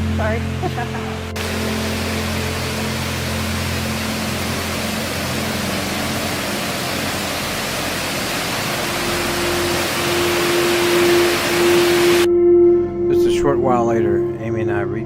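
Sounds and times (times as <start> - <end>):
rushing water from falls: 0.0 - 12.3.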